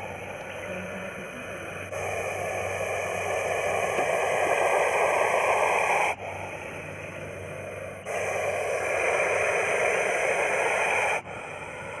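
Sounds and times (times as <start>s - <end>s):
snake hissing: 0.0s - 12.0s.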